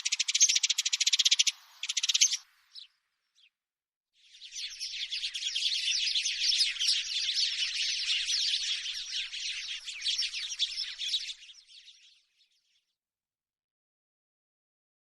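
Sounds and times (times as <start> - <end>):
sparrows chirping: 0.0 - 3.6, 4.2 - 12.9.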